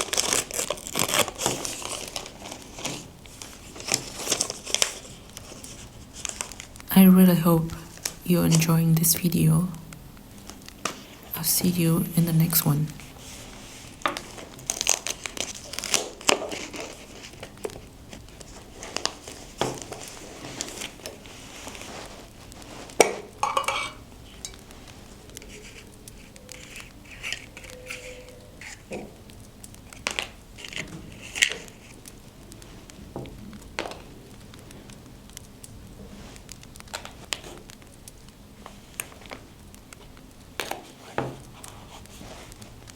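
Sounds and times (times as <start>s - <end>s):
paper crinkling and rustling: 0.0s - 6.9s, 12.4s - 23.4s, 24.0s - 42.9s.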